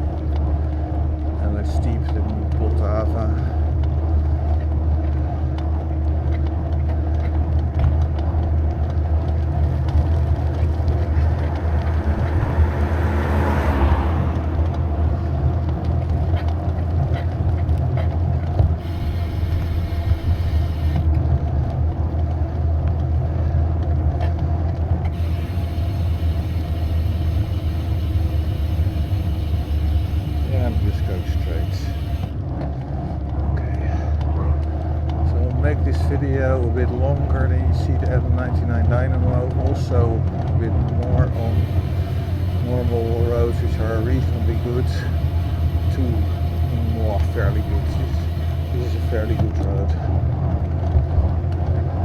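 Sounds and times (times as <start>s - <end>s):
bicycle vibration rumble and rattle: 0.0s - 52.0s
passing vehicle: 0.0s - 52.0s.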